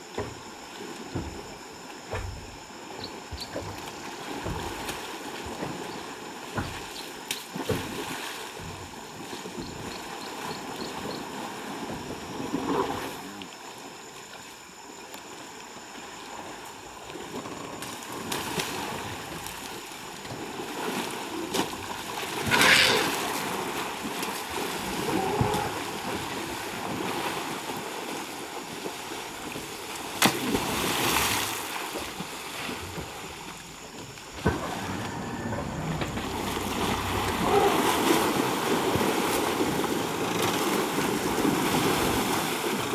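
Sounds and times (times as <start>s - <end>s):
elephants splashing water: 2.7s - 13.4s, 17.2s - 42.9s.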